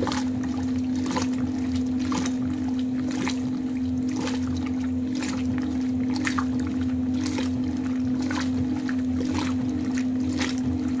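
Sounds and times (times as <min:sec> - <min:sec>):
washing machine drive hum: 0:00.0 - 0:11.0
water swishing and sloshing: 0:00.0 - 0:11.0.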